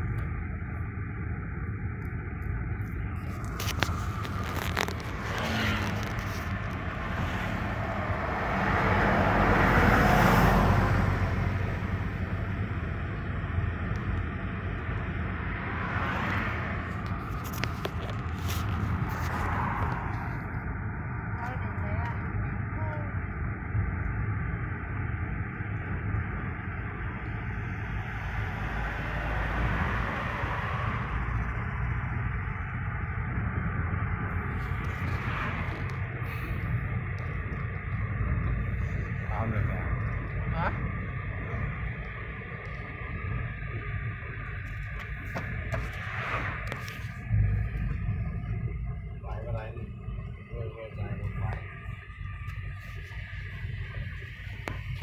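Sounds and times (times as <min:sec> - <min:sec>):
car road and engine noise: 0:00.0 - 0:55.0
large vehicle passing whoosh: 0:03.1 - 0:22.0, 0:25.7 - 0:41.9, 0:42.9 - 0:55.0.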